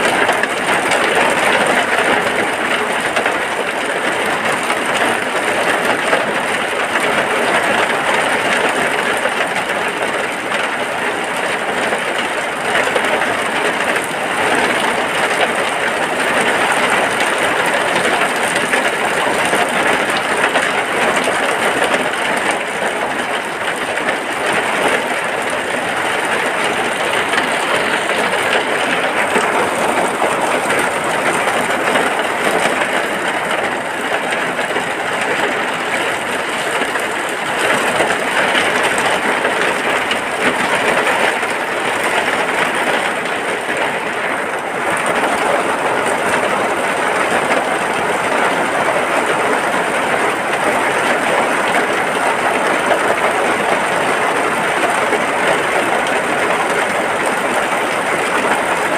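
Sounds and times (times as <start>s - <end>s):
dense rain falling: 0.0s - 58.9s.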